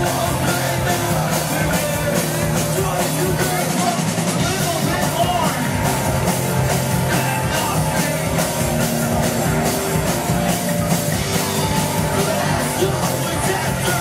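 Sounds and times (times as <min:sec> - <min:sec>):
electric guitars: 0:00.0 - 0:14.0
steady drum beat: 0:00.0 - 0:14.0.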